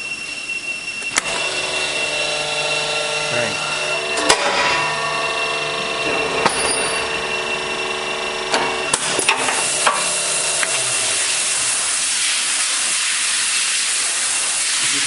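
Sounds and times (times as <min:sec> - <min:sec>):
shop press machine hum: 0:01.0 - 0:15.0.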